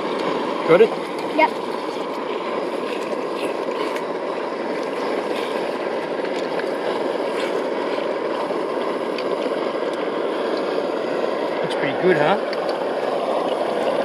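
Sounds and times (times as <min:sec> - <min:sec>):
stove burner rushing: 0:00.0 - 0:14.0.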